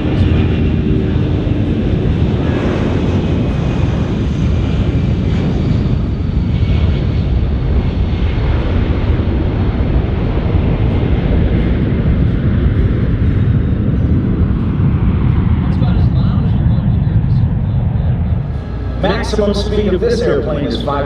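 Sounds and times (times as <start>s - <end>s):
jet engines at takeoff power: 0.0s - 21.0s.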